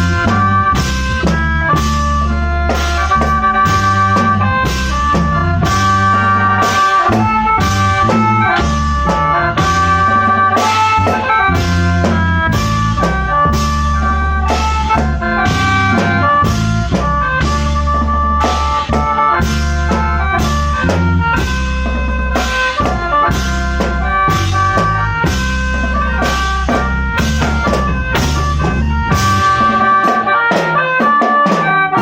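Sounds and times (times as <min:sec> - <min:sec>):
bass line: 0:00.0 - 0:32.0
drum kit beat: 0:00.0 - 0:32.0
mouth organ chords: 0:00.0 - 0:32.0.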